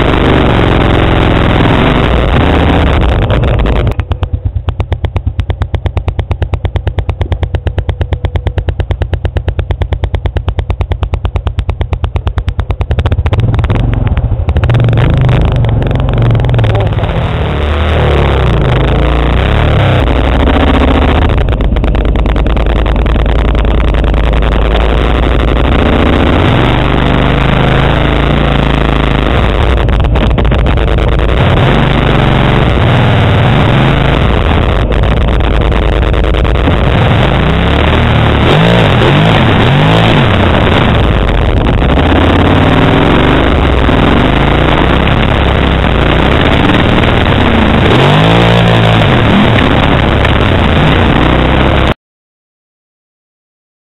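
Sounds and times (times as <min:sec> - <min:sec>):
atv engine revving: 0:00.0 - 0:52.0
constant rushing noise: 0:00.0 - 0:52.0.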